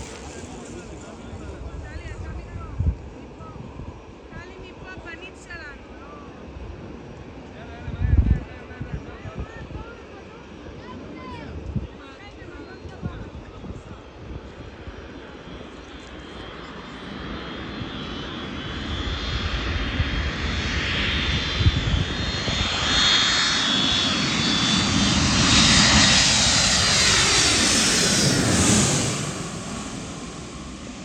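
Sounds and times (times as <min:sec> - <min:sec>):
jet airliner passing overhead: 0:00.0 - 0:31.0.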